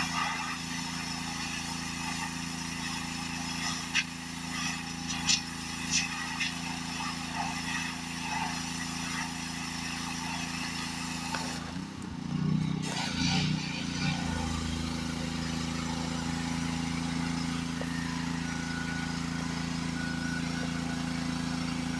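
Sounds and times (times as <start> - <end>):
water spray hissing: 0.0 - 12.0, 12.8 - 21.9
pressure washer engine running: 0.0 - 21.9.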